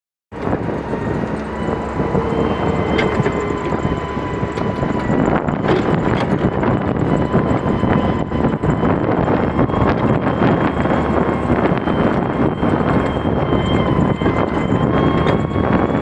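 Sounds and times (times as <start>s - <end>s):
digging machine engine running: 0.3s - 16.0s.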